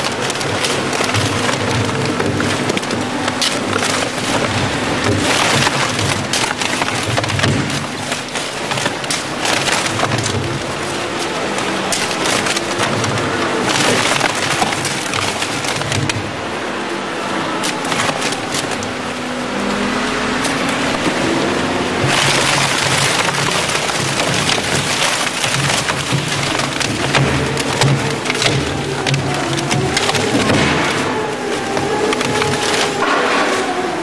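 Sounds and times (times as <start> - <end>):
machine humming: 0.0 - 34.0
shredder tearing paper and cardboard: 0.0 - 34.0.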